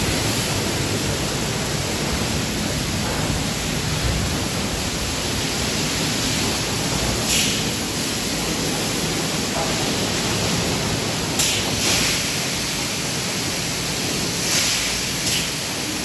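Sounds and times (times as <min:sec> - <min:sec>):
car wash water jets and brushes: 0:00.0 - 0:16.0.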